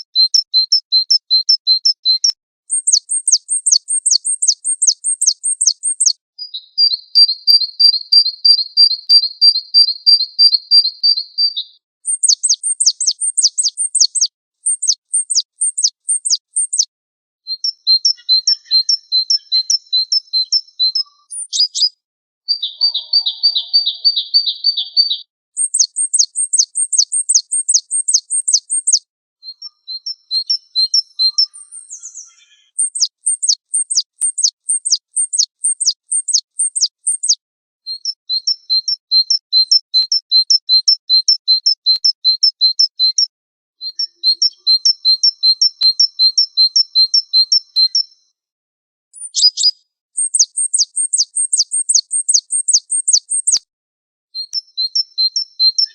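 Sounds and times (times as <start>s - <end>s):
songbird trilling and whistling: 0.0s - 16.9s, 17.5s - 48.2s, 49.1s - 53.6s, 54.4s - 55.9s.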